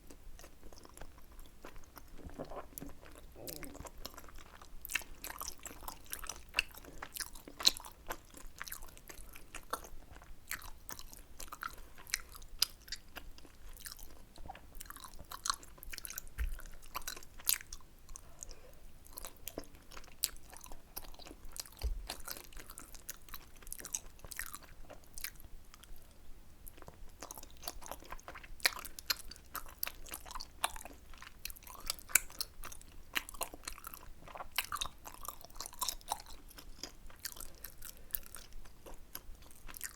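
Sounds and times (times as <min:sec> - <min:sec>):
chewing rice cakes: 0:00.0 - 0:39.9.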